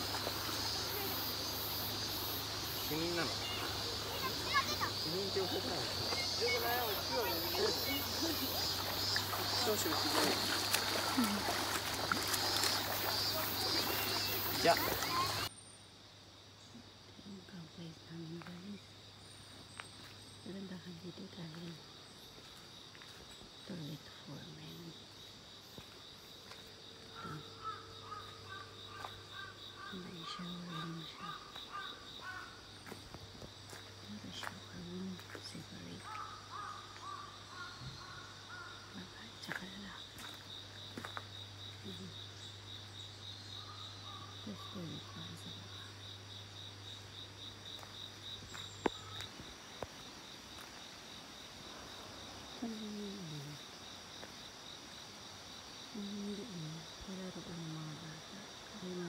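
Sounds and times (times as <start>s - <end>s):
crickets chirping: 0.0s - 59.0s
insects trilling: 0.0s - 59.0s.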